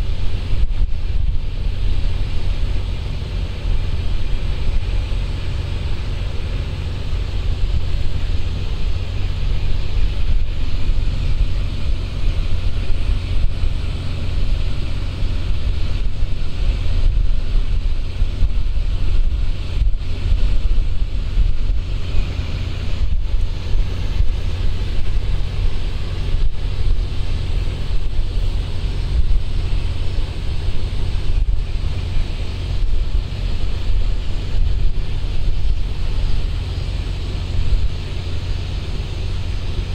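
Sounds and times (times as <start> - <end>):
steady rushing hiss: 0.0 - 39.9
wind buffeting microphone: 0.0 - 39.9.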